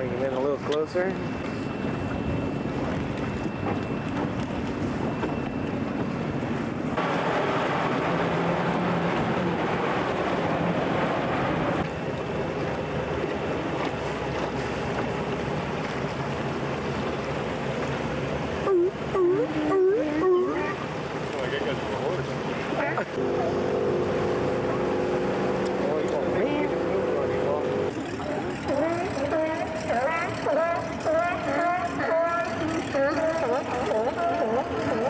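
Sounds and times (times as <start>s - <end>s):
water noise: 0.0s - 35.0s.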